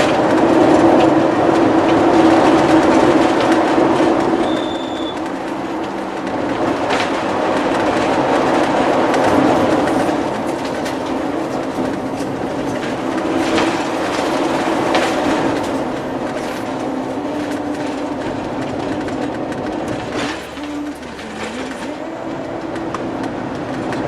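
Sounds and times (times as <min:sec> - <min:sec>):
vehicle road noise rumble: 0:00.0 - 0:24.0.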